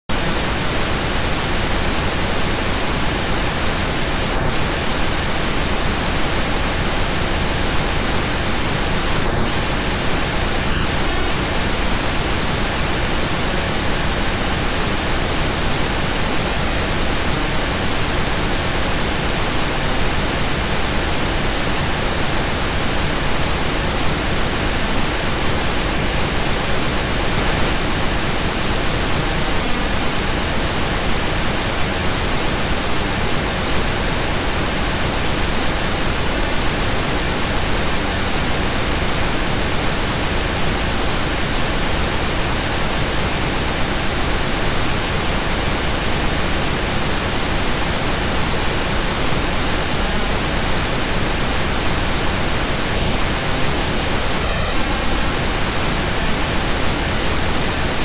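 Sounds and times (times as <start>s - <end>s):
steady noise hiss: 0.1s - 58.0s.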